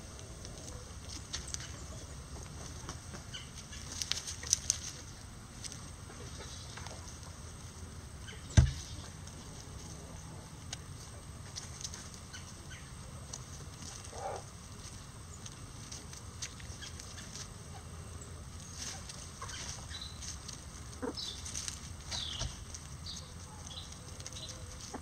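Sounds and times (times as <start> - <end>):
chickens clucking: 0.0 - 25.0
pecking and scratching in dry leaves: 0.0 - 25.0.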